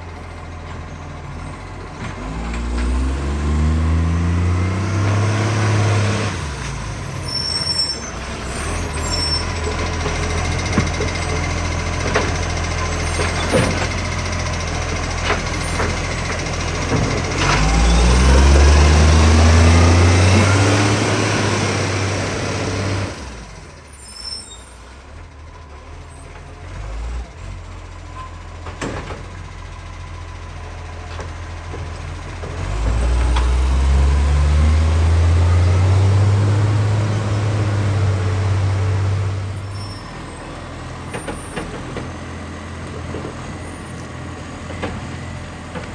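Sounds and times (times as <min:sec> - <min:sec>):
diesel engine with exhaust leak revving: 0:00.0 - 0:45.9.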